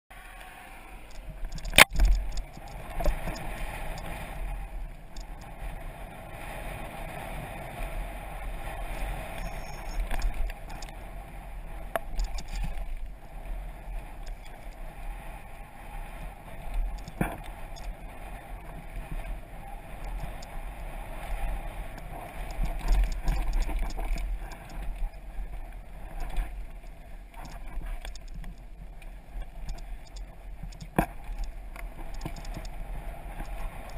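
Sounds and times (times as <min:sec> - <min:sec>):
bike tyres rolling on dirt: 0:00.1 - 0:33.9
bike rattling: 0:00.2 - 0:33.9.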